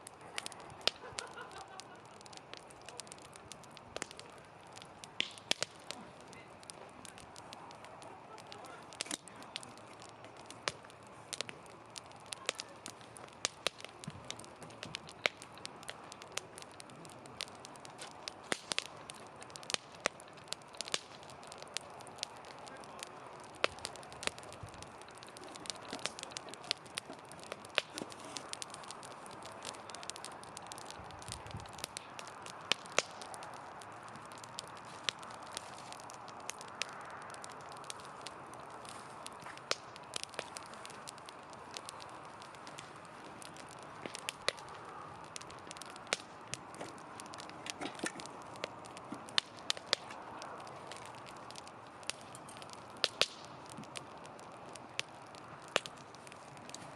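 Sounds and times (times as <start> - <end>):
campfire crackling: 0.0 - 56.9
fire popping and snapping: 0.0 - 56.9
soft hiss of burning: 0.0 - 56.9.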